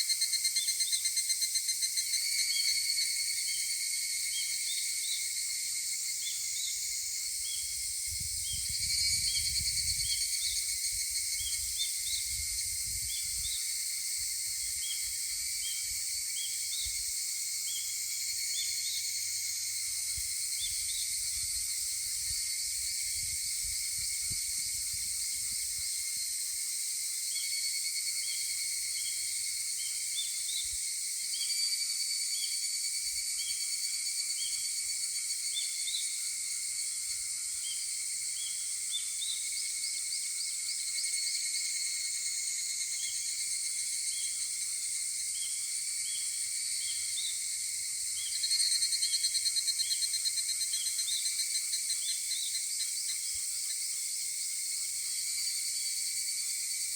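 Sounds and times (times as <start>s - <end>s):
cicadas ringing: 0.0s - 56.9s.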